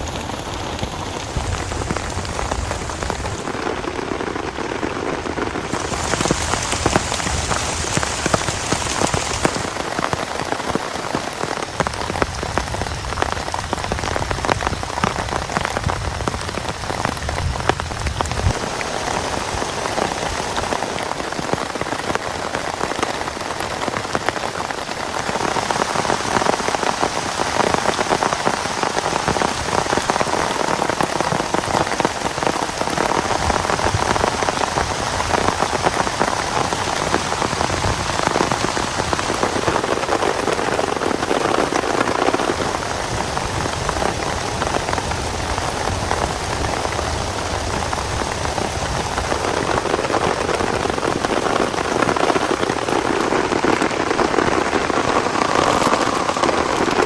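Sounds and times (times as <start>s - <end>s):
heavy rain on a surface: 0.0s - 57.0s.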